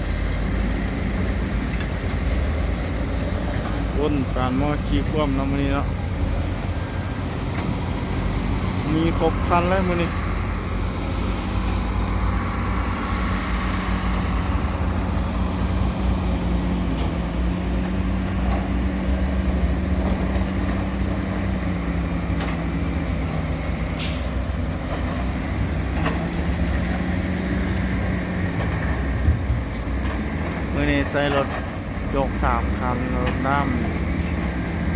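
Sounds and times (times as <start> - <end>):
diesel engines rumbling: 0.0 - 34.9.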